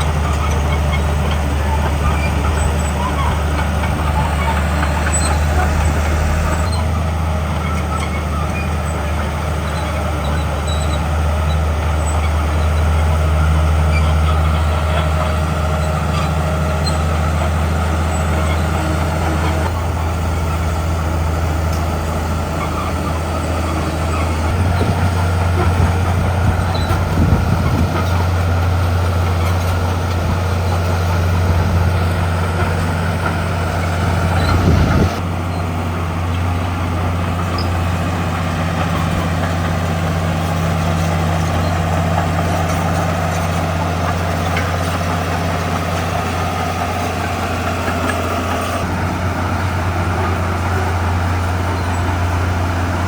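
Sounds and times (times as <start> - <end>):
diesel earthmoving machinery running: 0.0 - 53.0.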